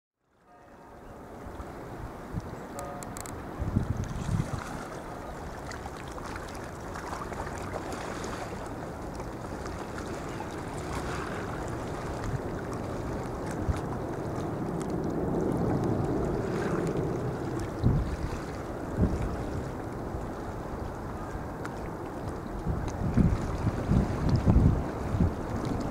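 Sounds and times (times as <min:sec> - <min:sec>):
water lapping: 0:00.5 - 0:25.9
wind buffeting microphone: 0:01.1 - 0:25.9.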